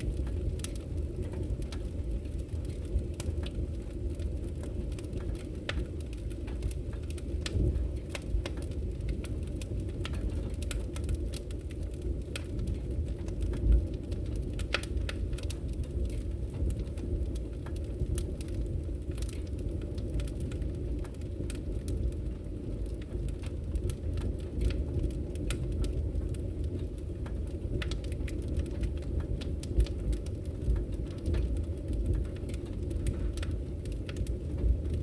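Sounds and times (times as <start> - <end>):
fire flames rumbling: 0.0 - 35.0
wood fire crackling and popping: 0.0 - 35.0.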